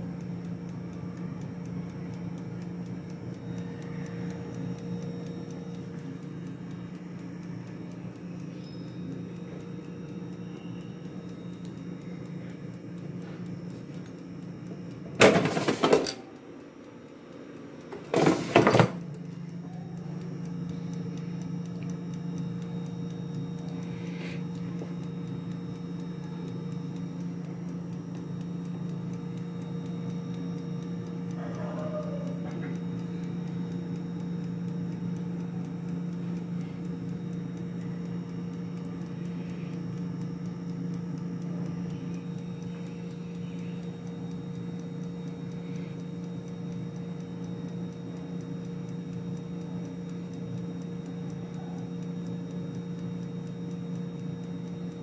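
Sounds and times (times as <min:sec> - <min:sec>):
air fryer humming: 0:00.0 - 0:55.0.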